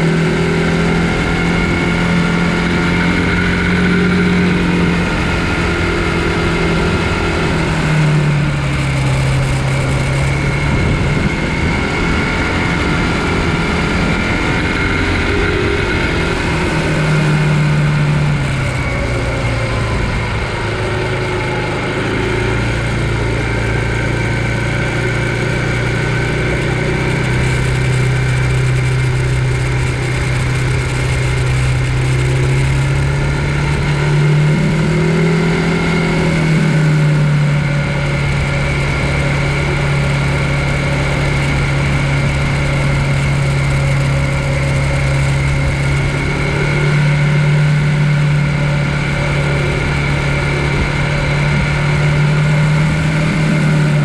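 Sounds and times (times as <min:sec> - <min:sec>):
e-bike motor humming: 0:00.0 - 0:54.0
low rumble: 0:00.0 - 0:54.0.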